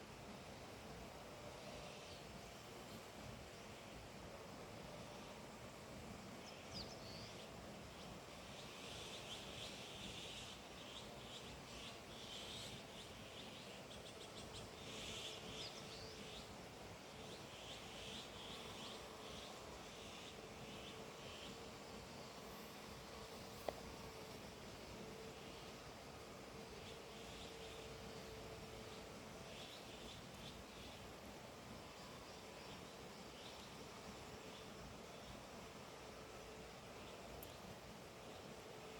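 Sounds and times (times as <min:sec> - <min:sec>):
steady background hiss: 0:00.0 - 0:38.9
wild birds chirping: 0:06.4 - 0:38.6.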